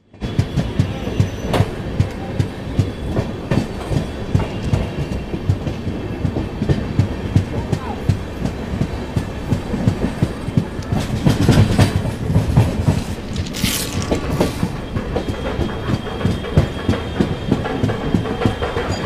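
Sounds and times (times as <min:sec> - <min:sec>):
clickety-clack over rail joints: 0:00.0 - 0:19.0
train wheel rumble: 0:00.0 - 0:19.0.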